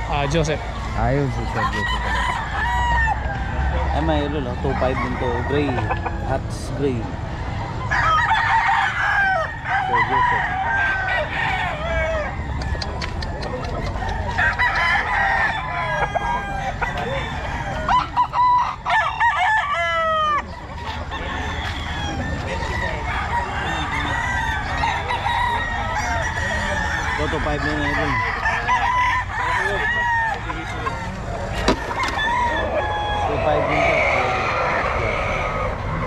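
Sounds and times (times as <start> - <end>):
roosters crowing and clucking: 0.0 - 36.0.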